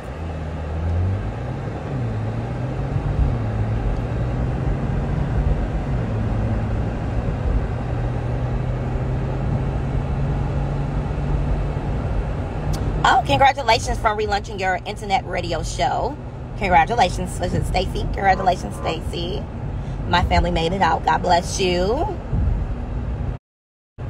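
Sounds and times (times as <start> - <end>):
car engine hum: 0.0 - 23.4
road noise rush: 0.0 - 23.4.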